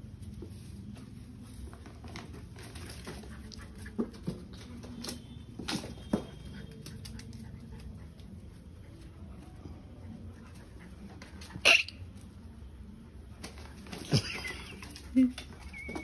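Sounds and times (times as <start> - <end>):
low background noise: 0.0 - 16.0
puppies scuffling: 0.0 - 16.0.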